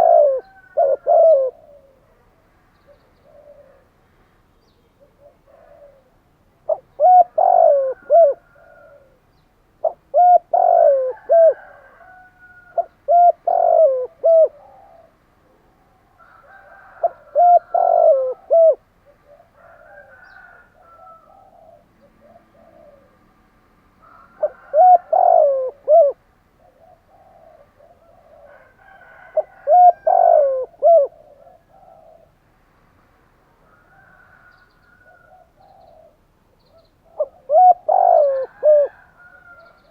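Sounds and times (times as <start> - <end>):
dove cooing: 0.0 - 4.0, 4.9 - 23.3, 24.0 - 32.4, 33.6 - 39.9.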